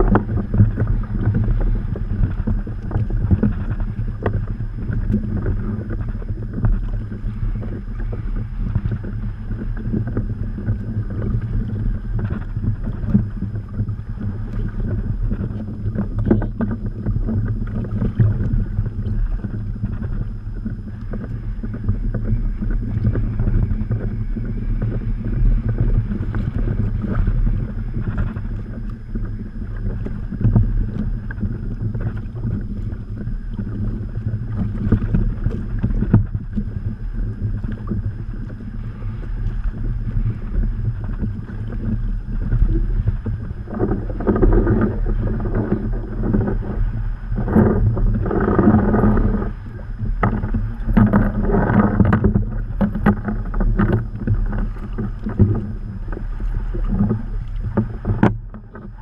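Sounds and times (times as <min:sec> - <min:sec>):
water slapping against kayak: 0:00.0 - 0:59.0
wind buffeting microphone: 0:00.0 - 0:59.0.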